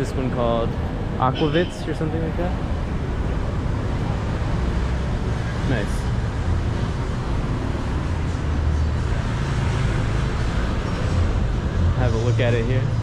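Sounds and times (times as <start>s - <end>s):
road noise: 0.0s - 13.0s
vehicle engines rumbling: 0.0s - 13.0s.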